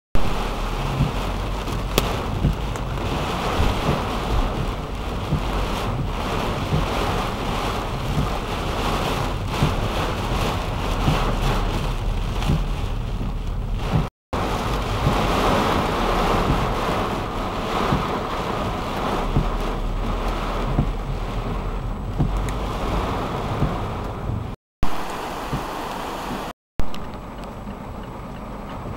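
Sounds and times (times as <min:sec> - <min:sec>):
heavy rain on car roof: 0:00.2 - 0:28.9
low wind rumble: 0:00.2 - 0:28.9.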